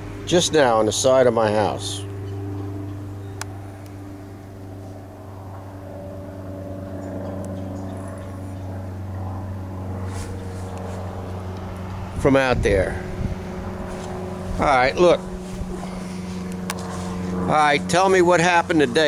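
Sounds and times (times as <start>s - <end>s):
low mechanical hum: 0.0s - 19.0s
traffic noise: 0.0s - 19.0s.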